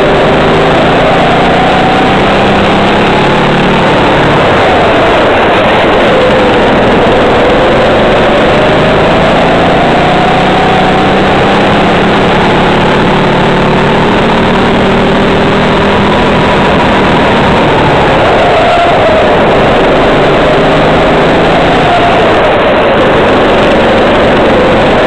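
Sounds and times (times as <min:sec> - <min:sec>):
kart engine revving: 0:00.0 - 0:25.0.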